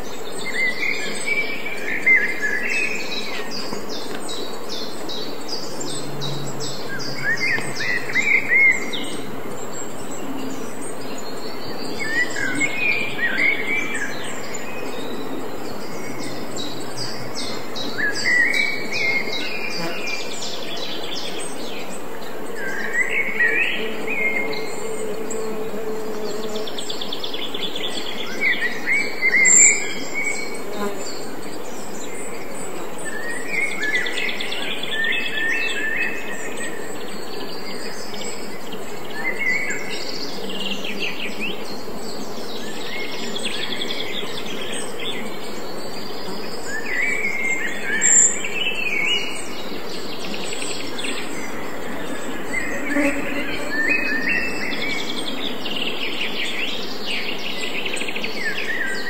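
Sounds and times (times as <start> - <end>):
songbirds singing: 0.0 - 59.0
steady background hiss: 0.0 - 59.0.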